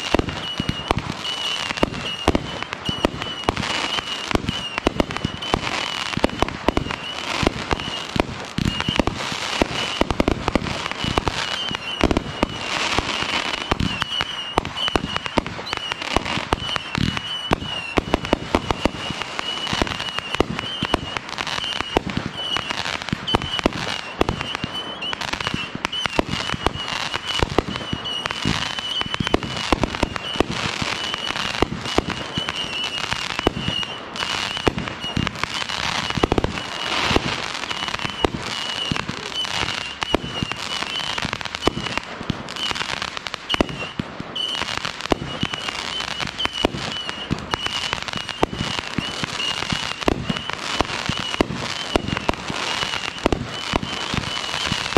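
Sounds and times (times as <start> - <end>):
fireworks launching and bursting: 0.0 - 54.9.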